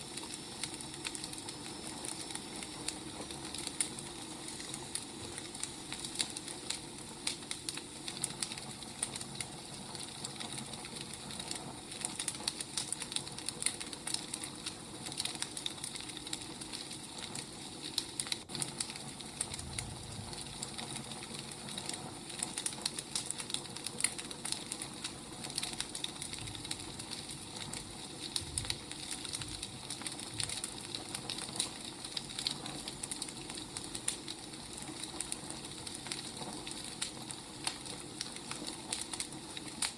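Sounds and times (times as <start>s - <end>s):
steady hiss: 0.0s - 39.9s
wood fire crackling: 0.0s - 39.9s.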